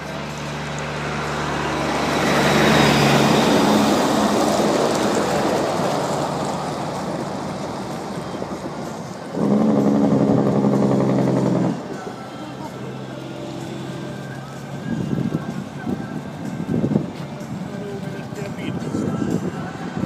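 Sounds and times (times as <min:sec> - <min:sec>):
semi truck passing: 0:00.0 - 0:20.0.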